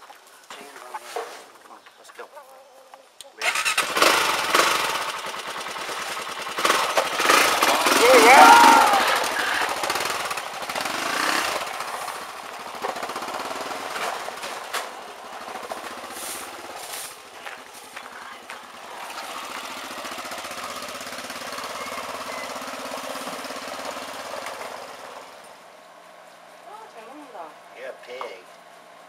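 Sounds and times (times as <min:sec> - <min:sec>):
atv engine running: 0:03.4 - 0:29.0.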